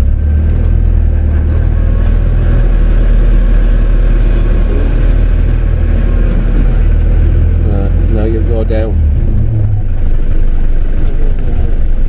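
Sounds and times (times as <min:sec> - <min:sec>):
car engine droning inside cab: 0:00.0 - 0:12.0.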